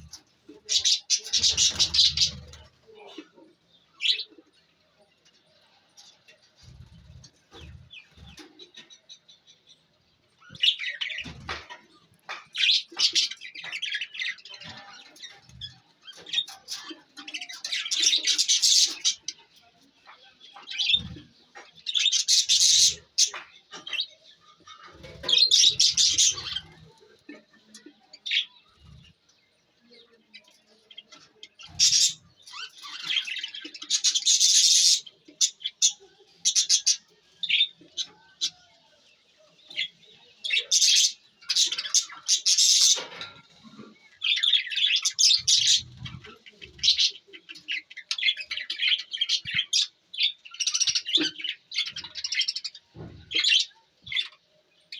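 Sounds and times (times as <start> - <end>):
budgie chicks chirping raspily: 0.0 - 54.9.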